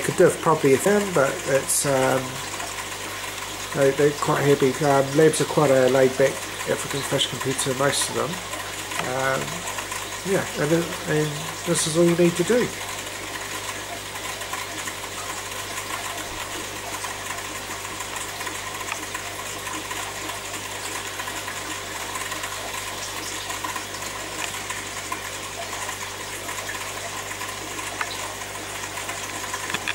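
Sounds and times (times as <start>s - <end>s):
aquarium pump humming: 0.0s - 29.9s
water bubbling and trickling: 0.0s - 29.9s.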